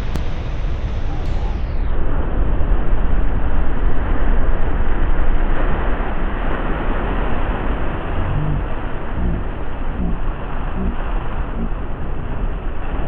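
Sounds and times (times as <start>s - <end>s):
storm waves crashing on seawall: 1.3s - 13.0s.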